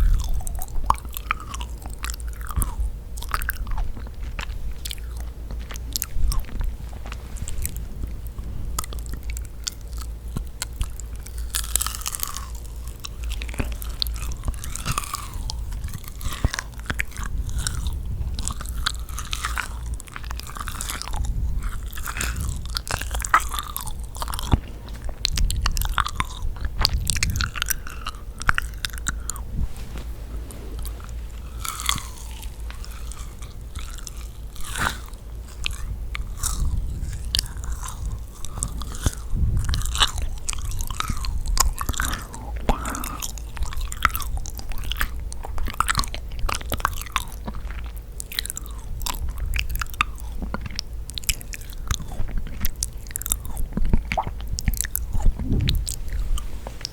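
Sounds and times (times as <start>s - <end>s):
biting cookies: 0.0s - 56.9s
sticky chewy chewing: 0.0s - 56.9s.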